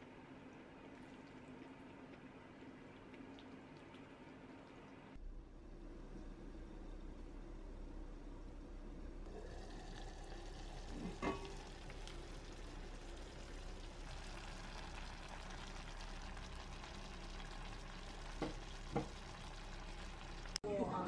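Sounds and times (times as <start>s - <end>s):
porridge bubbling in a pot: 0.0s - 20.6s.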